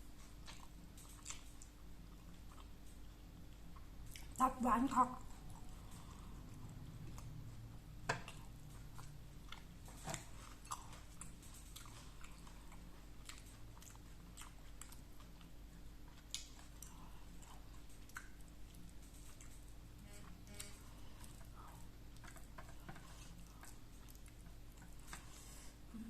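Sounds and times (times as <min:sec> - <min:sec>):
person chewing food: 0:00.0 - 0:04.4, 0:05.2 - 0:26.0.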